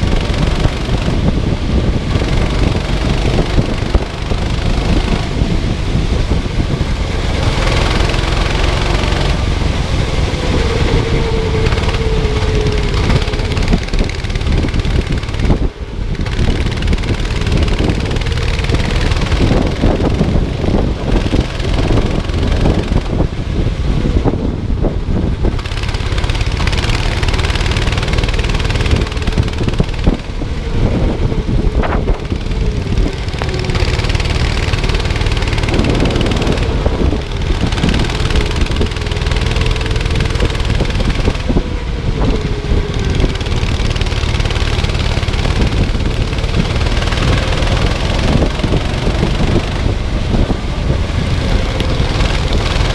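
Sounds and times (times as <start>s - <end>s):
go-kart engine racing: 0.0s - 52.9s
wind on microphone: 0.0s - 52.9s.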